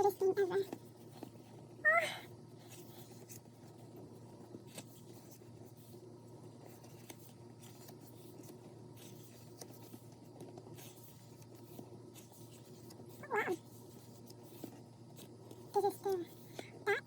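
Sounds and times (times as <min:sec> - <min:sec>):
low steady hum: 0:00.0 - 0:17.0
pages rustling and clicking: 0:02.6 - 0:16.7.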